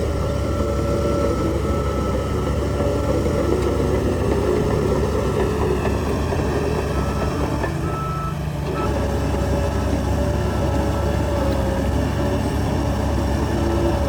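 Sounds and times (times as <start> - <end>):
diesel machinery engine drone: 0.0 - 14.0.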